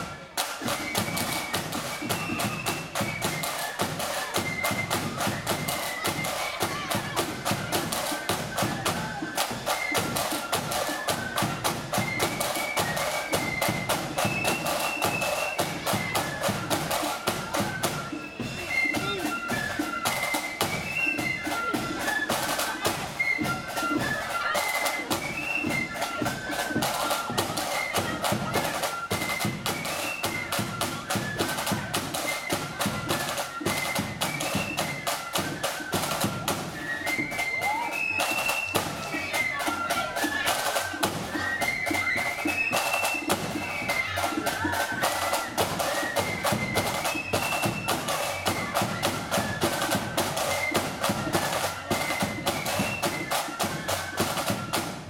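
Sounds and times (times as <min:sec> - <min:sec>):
high flute melody: 0:00.0 - 0:55.0
side drums march rhythm: 0:00.0 - 0:55.0.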